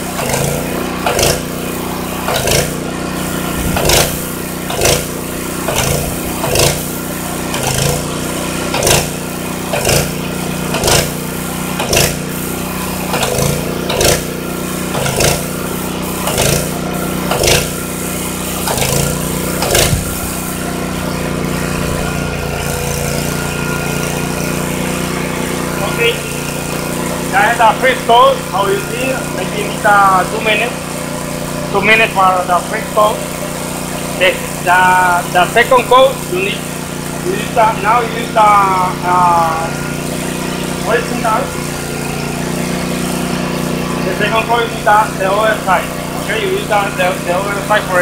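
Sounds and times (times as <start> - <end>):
paint sprayer humming: 0.0 - 48.0
pump pulsing: 0.0 - 48.0.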